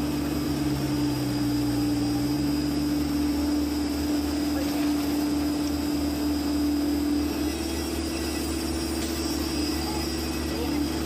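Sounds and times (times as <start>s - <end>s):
excavator diesel engine hum: 0.0s - 11.0s
faint high whine: 0.0s - 11.0s.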